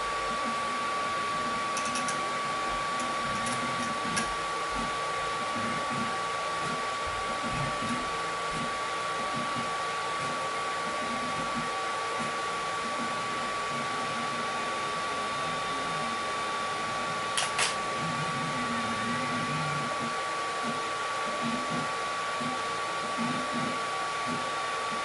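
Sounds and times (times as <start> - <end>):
fan whir with high tone: 0.0 - 25.0.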